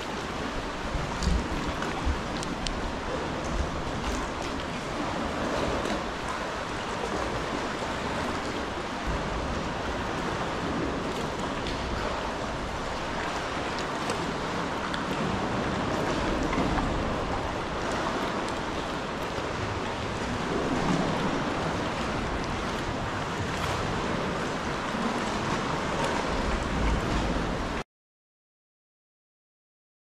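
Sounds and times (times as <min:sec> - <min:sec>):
sea water lapping against rock: 0:00.0 - 0:27.8.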